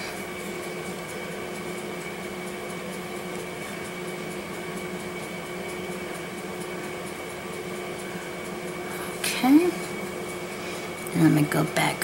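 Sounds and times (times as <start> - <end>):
constant high whine: 0.0 - 12.0
mechanical room hum and hiss: 0.0 - 12.0.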